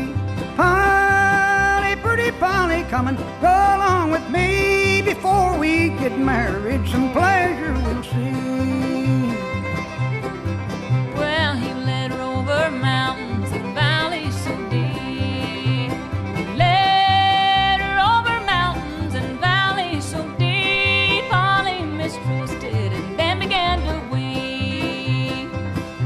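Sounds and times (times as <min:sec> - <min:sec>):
banjo: 0:00.0 - 0:26.0
bass: 0:00.0 - 0:26.0
fiddle: 0:00.0 - 0:26.0
guitar: 0:00.0 - 0:26.0.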